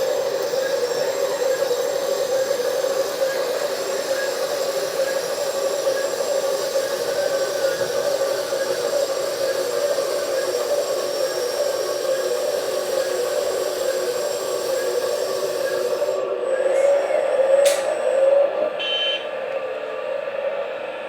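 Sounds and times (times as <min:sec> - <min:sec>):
toy excavator hydraulic hum: 0:00.0 - 0:19.6.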